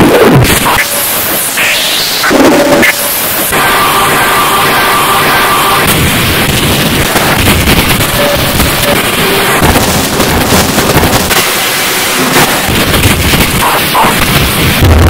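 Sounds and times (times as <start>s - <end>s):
harsh digital noise music: 0.0s - 15.0s.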